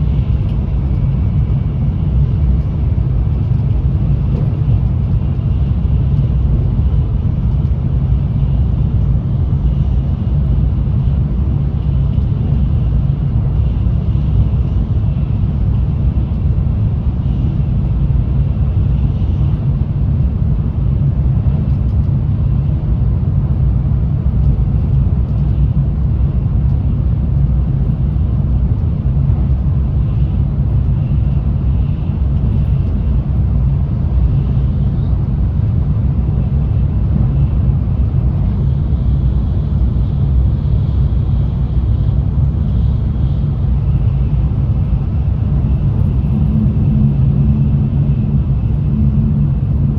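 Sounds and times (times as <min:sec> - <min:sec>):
train interior low rumble: 0:00.0 - 0:49.9.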